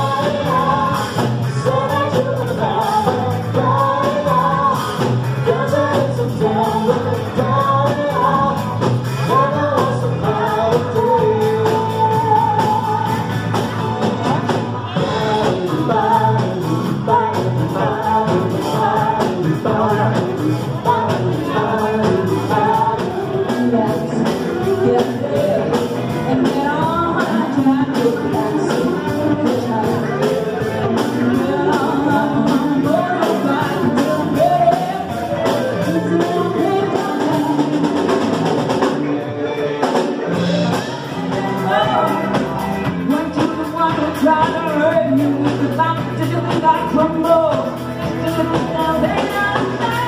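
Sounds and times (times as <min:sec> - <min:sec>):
woman singing into microphone: 0:00.0 - 0:13.5, 0:14.9 - 0:39.0, 0:41.0 - 0:50.0
drum kit: 0:00.0 - 0:50.0
electric guitar: 0:00.0 - 0:50.0.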